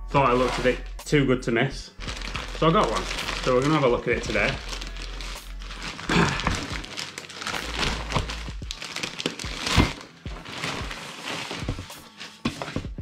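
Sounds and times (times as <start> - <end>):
plastic wrapping crinkling: 0.3 - 0.9, 2.0 - 12.8.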